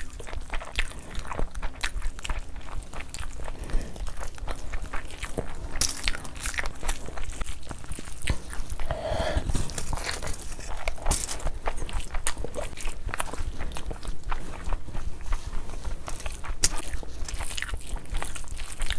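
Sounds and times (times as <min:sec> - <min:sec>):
wet chewing and mouth smacking: 0:00.0 - 0:18.9.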